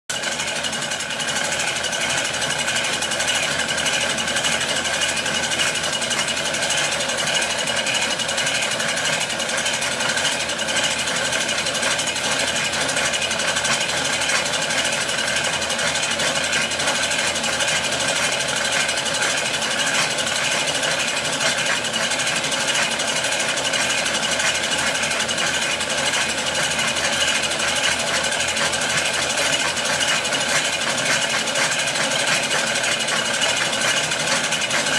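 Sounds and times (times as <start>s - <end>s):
film projector clatter: 0.1s - 34.9s.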